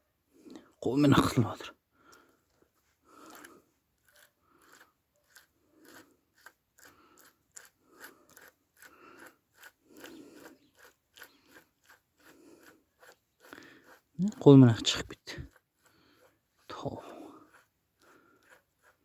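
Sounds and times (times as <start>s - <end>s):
faint scraping and clicking: 2.1s - 19.0s.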